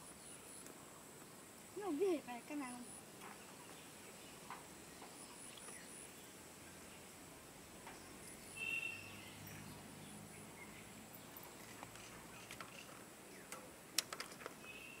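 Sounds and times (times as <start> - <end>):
faint high insect hum: 0.0 - 15.0.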